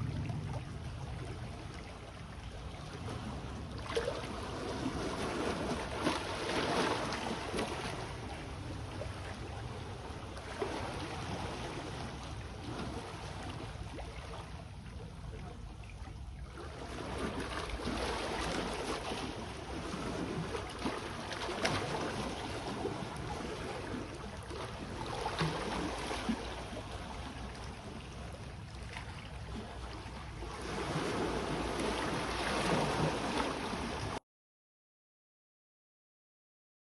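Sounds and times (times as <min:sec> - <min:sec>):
sea waves washing ashore: 0:00.0 - 0:34.2.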